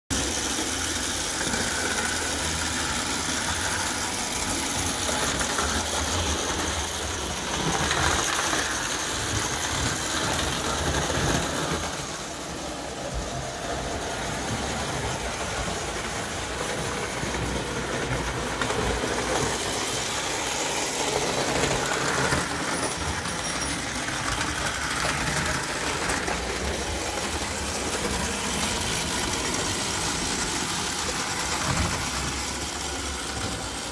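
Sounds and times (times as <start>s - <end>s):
wheels rattling on rails: 0.1s - 33.9s
toy train motor whirring: 0.2s - 33.9s.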